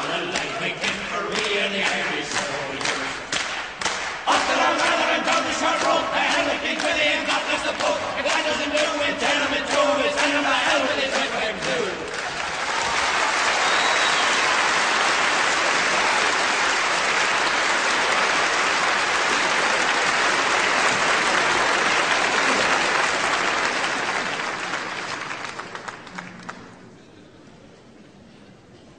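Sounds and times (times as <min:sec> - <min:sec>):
audience applauding: 0:00.0 - 0:26.9.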